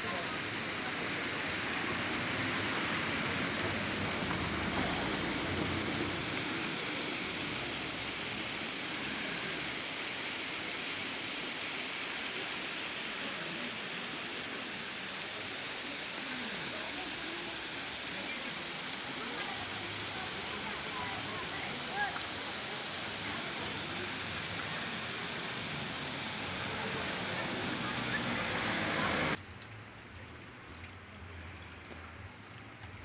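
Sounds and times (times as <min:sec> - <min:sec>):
waterfall rushing: 0:00.0 - 0:29.4.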